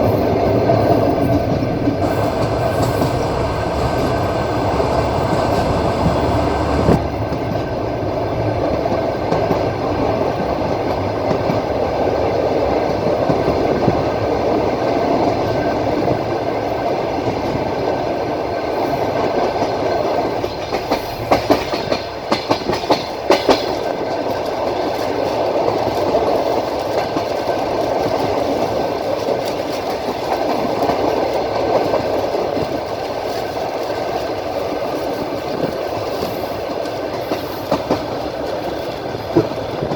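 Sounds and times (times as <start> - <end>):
train wheels rumbling on rails: 0.0 - 39.9
wheels clicking over rail joints: 0.1 - 16.4, 17.0 - 39.9.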